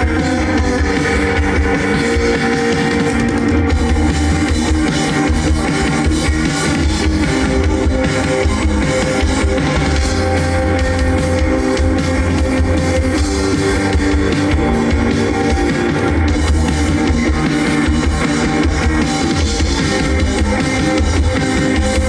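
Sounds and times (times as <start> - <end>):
drum kit: 0.0 - 22.0
electric guitar: 0.0 - 22.0.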